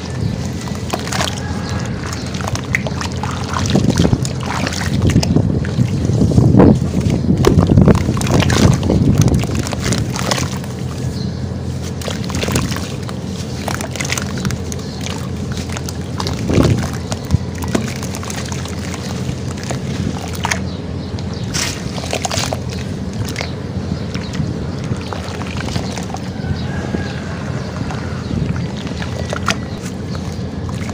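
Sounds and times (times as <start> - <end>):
hands squeezing wet sand in water: 0.0 - 30.9
water sloshing with gritty crackles: 0.0 - 30.9.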